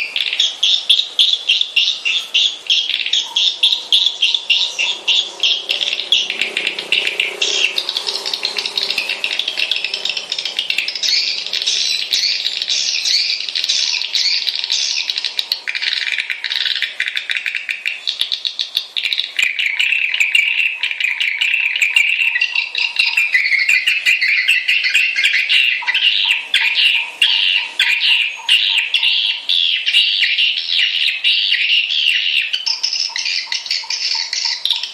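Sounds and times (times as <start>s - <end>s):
swiftlets chattering: 0.0s - 29.8s.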